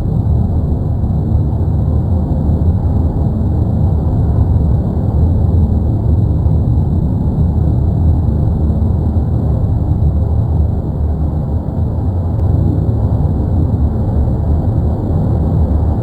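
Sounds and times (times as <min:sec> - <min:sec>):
volcano erupting with low roar: 0:00.0 - 0:16.0.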